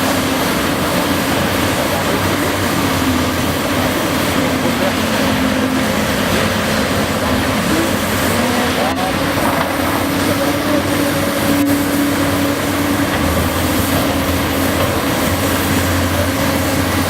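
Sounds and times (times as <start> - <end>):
excavator engine and hydraulics: 0.0 - 17.0.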